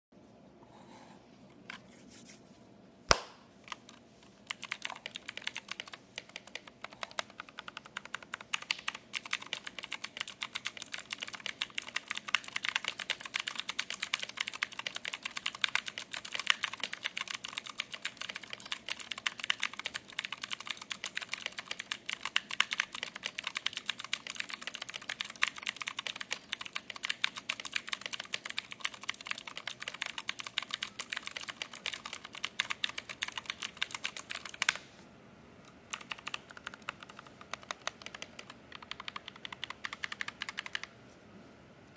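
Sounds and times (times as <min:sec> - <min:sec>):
mechanical keyboard typing: 0:04.5 - 0:34.8, 0:35.9 - 0:40.9.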